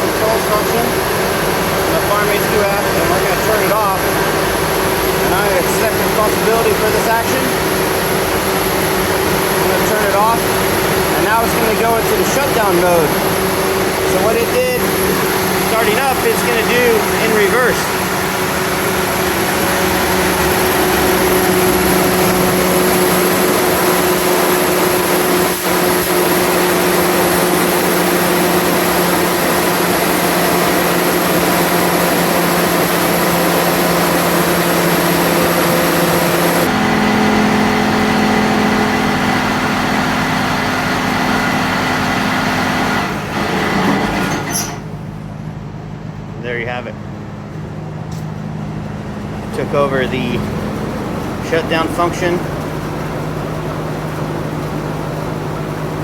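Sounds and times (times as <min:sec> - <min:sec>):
pump engine running: 0:00.0 - 0:56.0.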